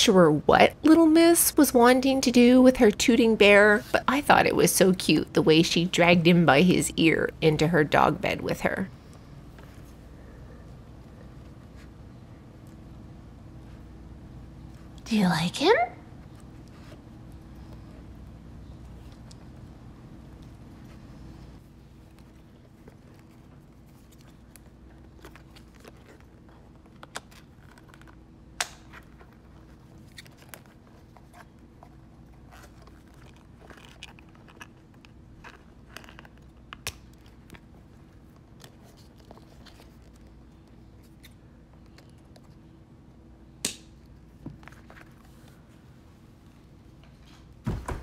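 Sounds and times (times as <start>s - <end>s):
faint hum: 0.0s - 48.0s.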